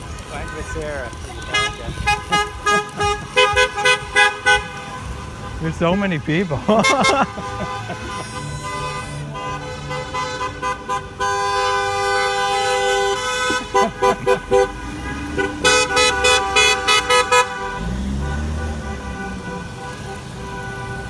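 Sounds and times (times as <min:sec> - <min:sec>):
car horns honking: 0:00.0 - 0:21.0.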